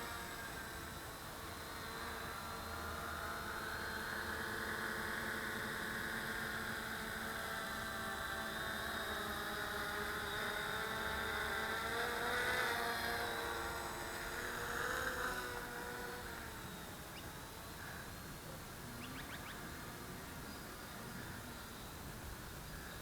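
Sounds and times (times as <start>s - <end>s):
quadcopter propellers whirring: 0.0s - 23.0s.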